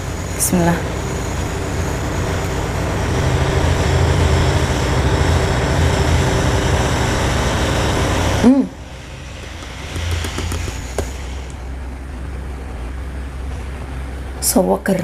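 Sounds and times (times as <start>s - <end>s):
short rising and falling hum: 0.0s - 14.4s
faint steady hum: 0.0s - 15.0s
low mechanical rumble: 0.0s - 15.0s.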